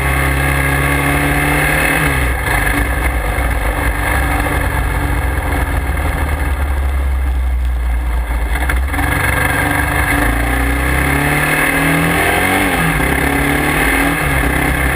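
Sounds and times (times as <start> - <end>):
vehicle engine running: 0.0 - 14.9
wind and road rush: 0.0 - 14.9.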